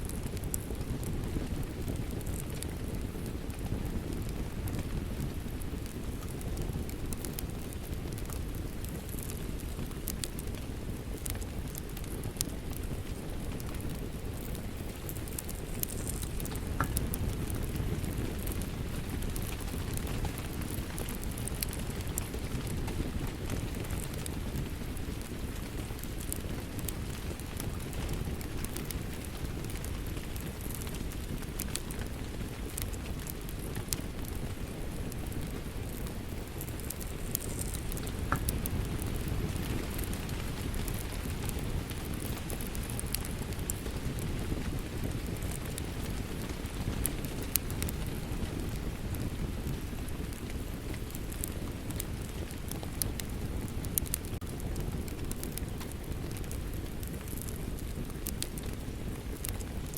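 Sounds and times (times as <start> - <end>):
steady rain: 0.0 - 59.9
wood fire crackling and popping: 0.0 - 59.9.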